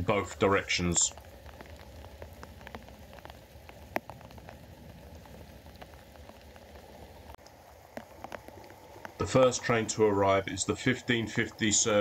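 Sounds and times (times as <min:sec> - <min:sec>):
rain pattering: 0:00.0 - 0:12.0
raindrop ticks: 0:00.0 - 0:12.0.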